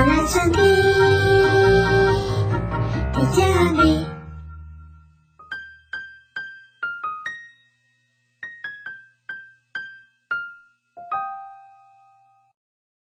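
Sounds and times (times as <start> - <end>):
keyboard playing light melody: 0.0 - 12.6.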